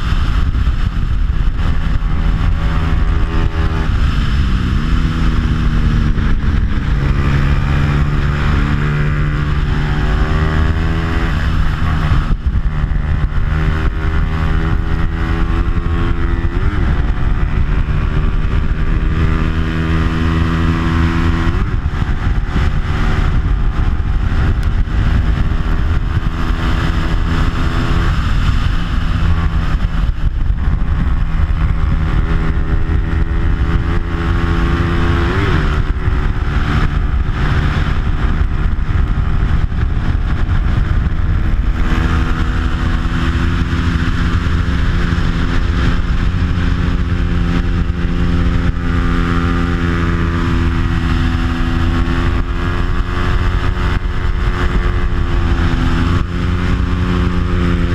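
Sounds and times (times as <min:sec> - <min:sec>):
motorcycle engine revving: 0:00.0 - 0:57.9
wind on microphone: 0:00.0 - 0:57.9.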